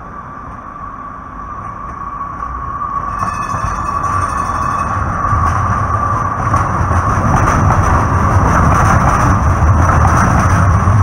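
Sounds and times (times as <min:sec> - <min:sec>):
light rail train rumbling past: 0:00.0 - 0:11.0.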